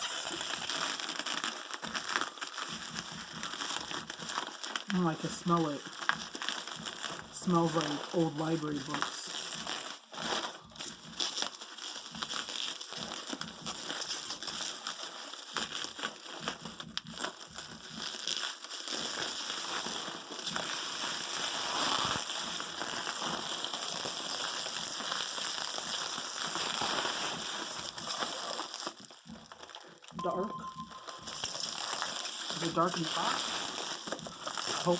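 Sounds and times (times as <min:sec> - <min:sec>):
packaging crinkling: 0:00.0 - 0:34.9.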